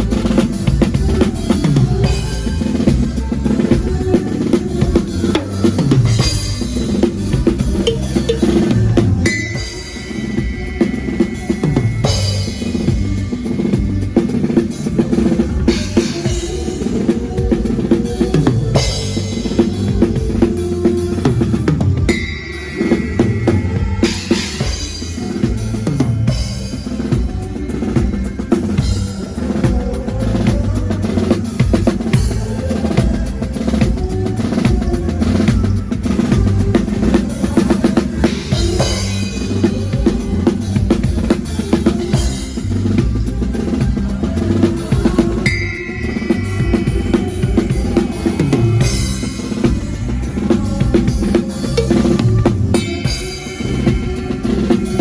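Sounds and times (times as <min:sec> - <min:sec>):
band with bass line: 0:00.0 - 0:55.0
drum kit playing: 0:00.0 - 0:55.0.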